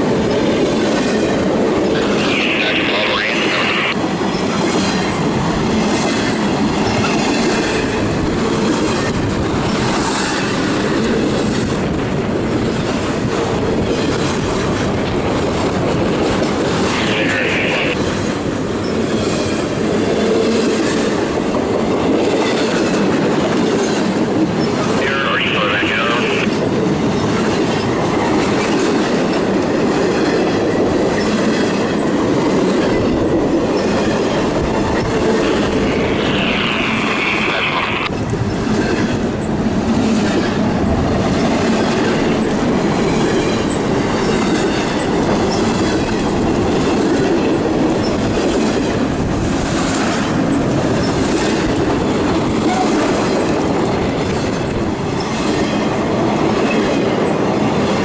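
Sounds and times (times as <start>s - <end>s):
freight train wheels on rail: 0.0s - 58.0s.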